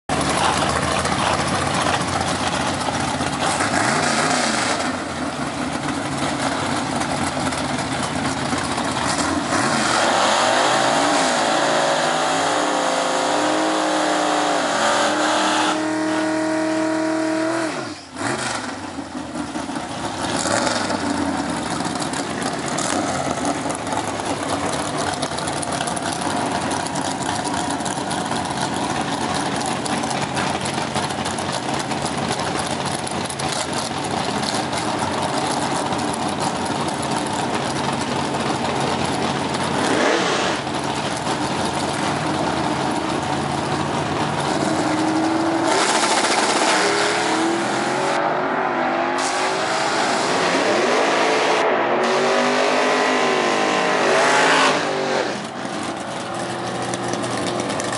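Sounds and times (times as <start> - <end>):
loud car engine revving: 0.1 - 57.9.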